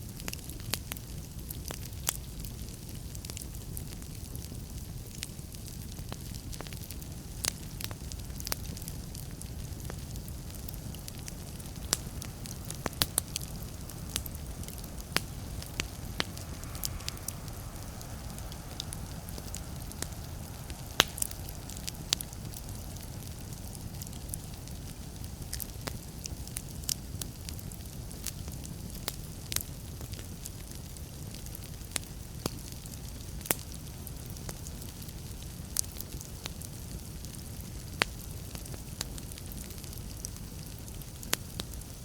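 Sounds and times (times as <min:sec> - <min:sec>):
fire crackling and popping: 0:00.0 - 0:42.0
low rumble of flames: 0:00.0 - 0:42.0.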